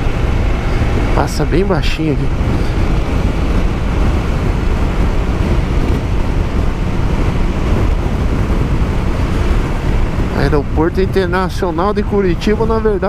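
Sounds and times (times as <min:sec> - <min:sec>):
motorcycle engine and tyre noise: 0:00.0 - 0:13.0
wind rushing over microphone: 0:00.0 - 0:13.0.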